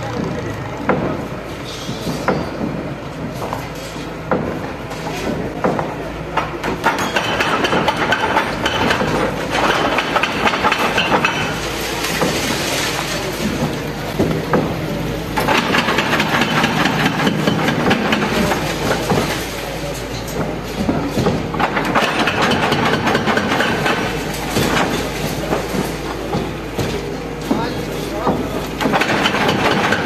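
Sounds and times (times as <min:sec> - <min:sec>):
excavator engine running: 0:00.0 - 0:30.0
masonry and rubble crashing: 0:04.3 - 0:30.0.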